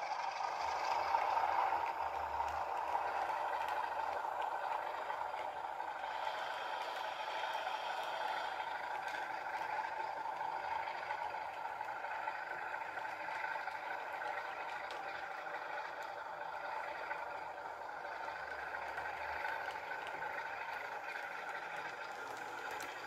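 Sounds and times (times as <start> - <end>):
diesel engine sound through small speaker: 0.0 - 23.0.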